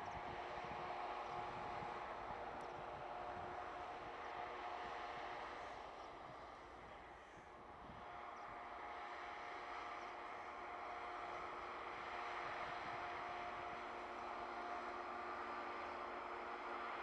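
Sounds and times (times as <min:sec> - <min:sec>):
diesel locomotive engine droning: 0:00.0 - 0:17.0.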